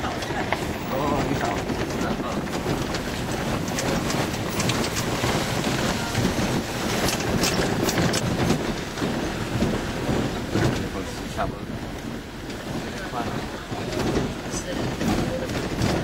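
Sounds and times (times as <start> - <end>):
moving vehicle rumble: 0.0 - 16.0
wind buffeting microphone: 0.0 - 16.0.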